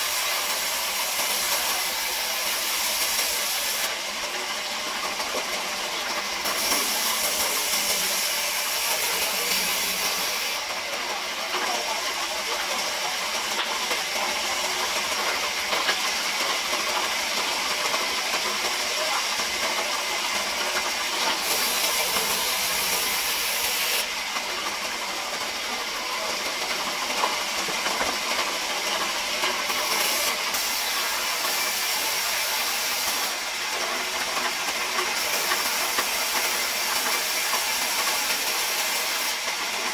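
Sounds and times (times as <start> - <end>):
band saw cutting wood: 0.0 - 4.1, 5.4 - 10.9, 13.5 - 25.5, 26.1 - 39.9.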